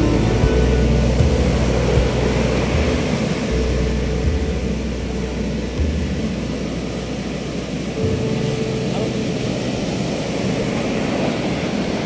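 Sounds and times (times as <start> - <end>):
sea surf breaking: 0.0 - 12.0.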